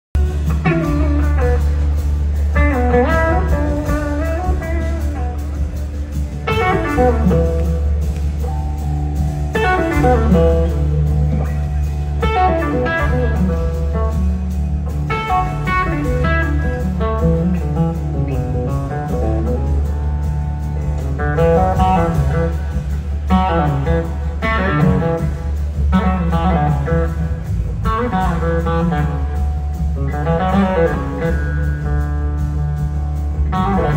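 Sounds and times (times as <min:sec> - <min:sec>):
blues-rock band playing: 0:00.2 - 0:33.9.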